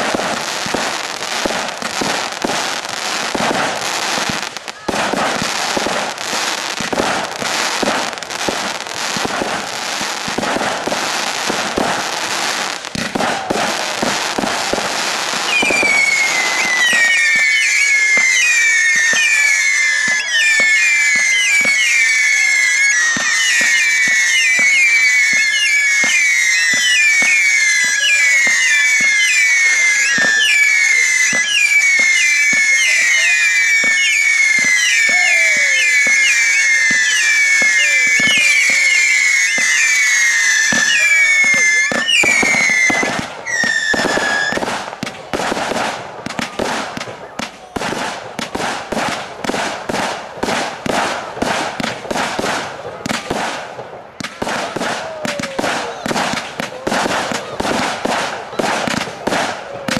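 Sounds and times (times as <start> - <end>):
crackling fireworks barrage: 0.0 - 59.9
firework bangs: 0.0 - 59.9
whistling fireworks: 0.0 - 59.9.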